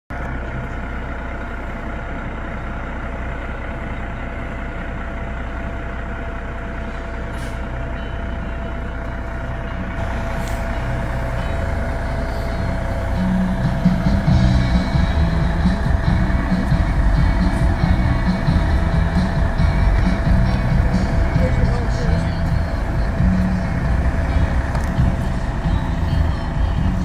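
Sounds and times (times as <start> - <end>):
fire engine diesel engine running: 0.1 - 27.0.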